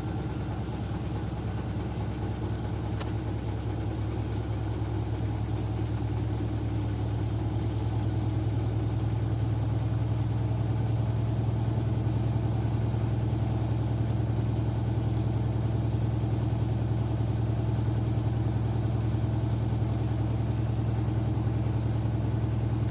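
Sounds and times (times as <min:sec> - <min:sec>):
washing machine spinning: 0:03.2 - 0:22.9.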